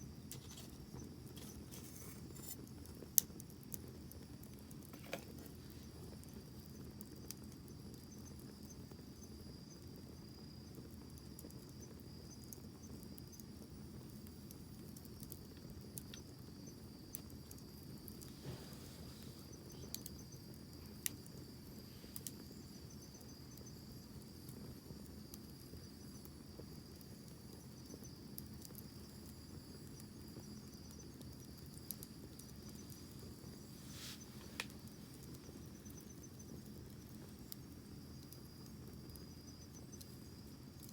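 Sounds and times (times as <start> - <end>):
campfire crackling and popping: 0.0 - 18.4, 19.1 - 40.9
crickets trilling: 0.0 - 40.9.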